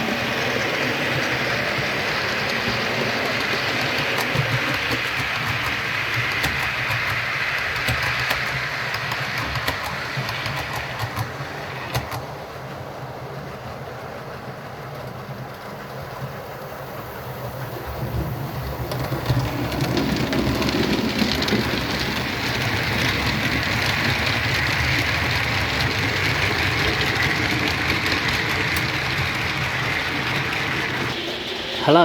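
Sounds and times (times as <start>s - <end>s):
model train whirring: 0.0s - 32.0s
wheels clicking on track: 0.0s - 32.0s.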